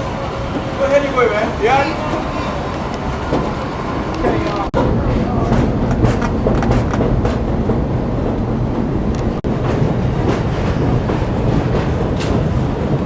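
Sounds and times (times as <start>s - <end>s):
subway train rumbling: 0.0s - 13.0s
wheels clattering over rail joints: 0.0s - 13.0s.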